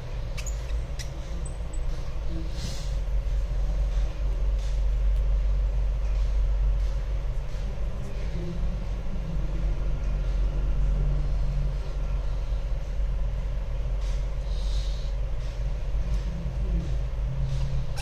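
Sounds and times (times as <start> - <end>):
faint hum: 0.0 - 18.0
low background rumble: 0.0 - 18.0.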